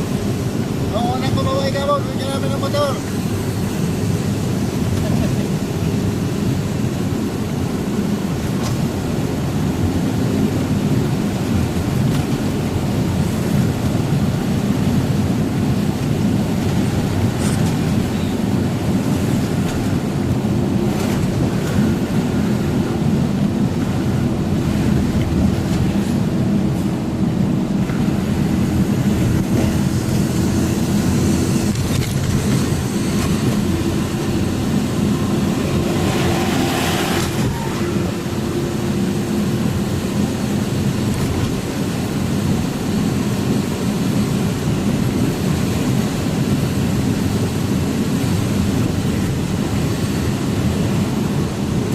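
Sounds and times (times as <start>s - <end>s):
truck engine and road rumble: 0.0s - 51.9s.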